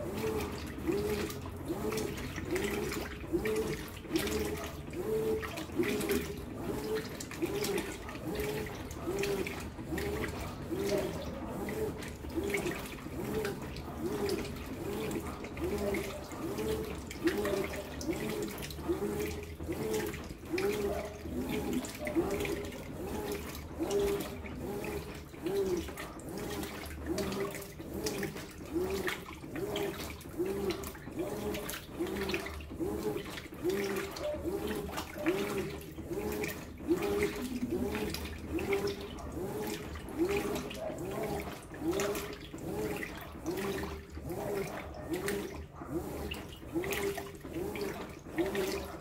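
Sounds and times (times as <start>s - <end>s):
washing machine motor whining: 0.0s - 49.0s
water sloshing in washing machine: 0.0s - 49.0s.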